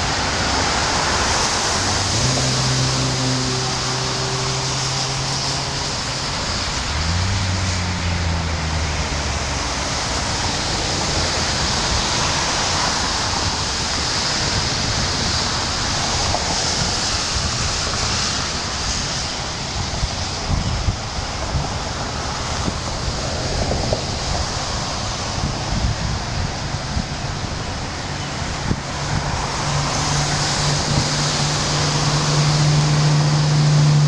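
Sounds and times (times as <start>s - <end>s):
low engine hum: 0.0s - 34.0s
water rushing into a drain: 0.0s - 34.0s.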